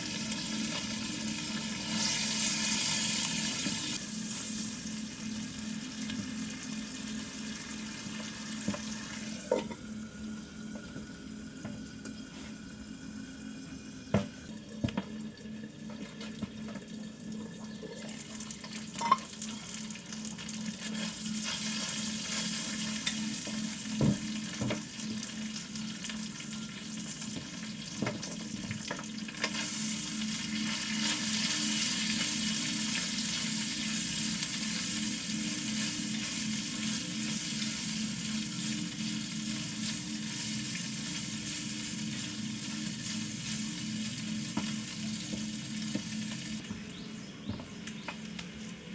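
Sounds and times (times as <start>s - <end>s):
food sizzling in a hot pan: 0.0s - 14.1s, 18.1s - 46.6s.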